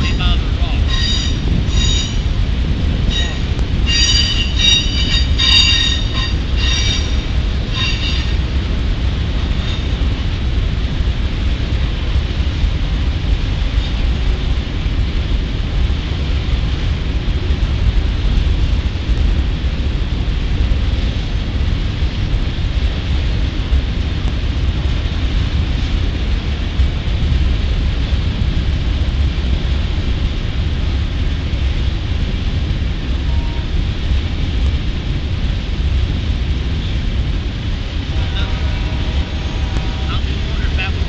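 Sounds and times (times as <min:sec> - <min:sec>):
freight train rolling past: 0:00.0 - 0:41.0.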